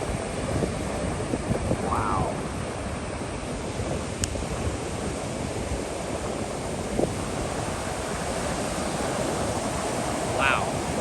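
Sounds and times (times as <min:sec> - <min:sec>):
ocean surf washing: 0:00.0 - 0:11.0
wind noise on microphone: 0:00.0 - 0:11.0.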